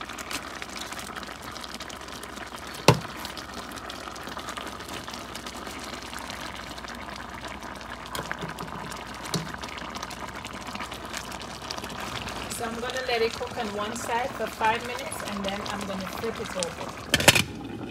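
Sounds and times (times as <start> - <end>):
sauce simmering and bubbling: 0.0 - 17.9.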